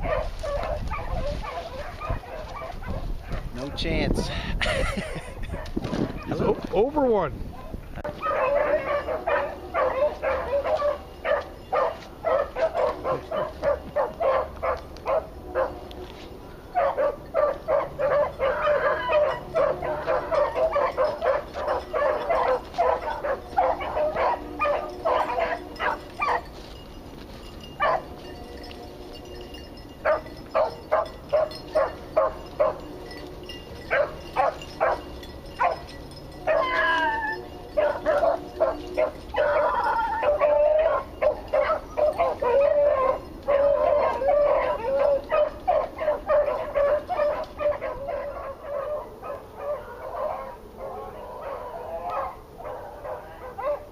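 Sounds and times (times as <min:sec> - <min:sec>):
dogs yipping and baying: 0:00.0 - 0:03.8, 0:04.7 - 0:06.8, 0:08.0 - 0:15.9, 0:16.5 - 0:53.9.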